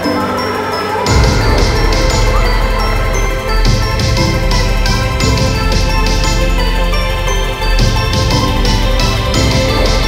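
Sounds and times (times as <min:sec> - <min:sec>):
music with heavy bass beat: 0:01.0 - 0:10.0.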